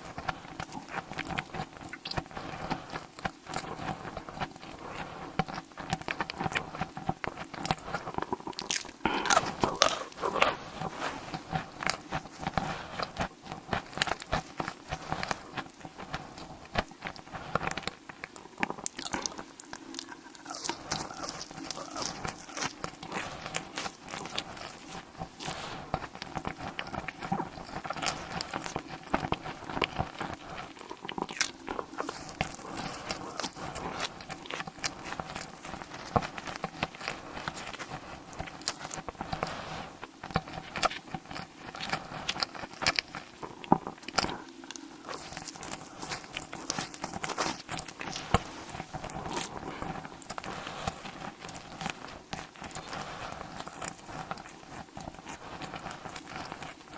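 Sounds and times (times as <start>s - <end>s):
crunchy bites and chewing: 0.0s - 56.9s.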